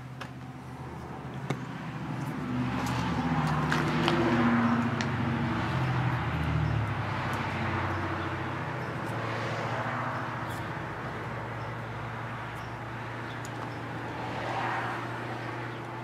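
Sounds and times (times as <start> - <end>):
motor vehicle passing: 0.6 - 16.0.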